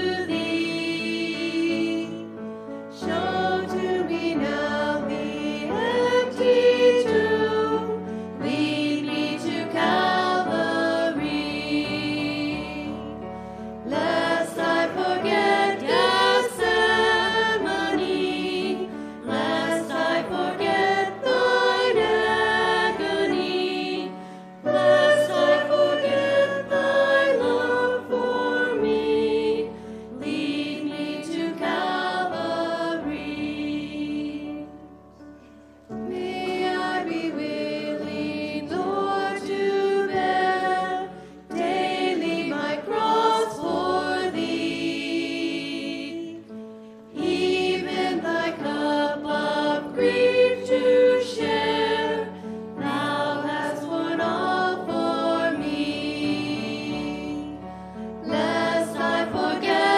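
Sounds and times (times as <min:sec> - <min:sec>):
women singing a hymn: 0:00.0 - 0:59.9.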